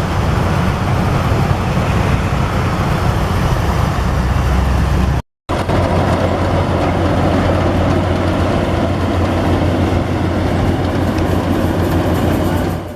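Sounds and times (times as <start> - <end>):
combine harvester engine running: 0.0 - 12.9.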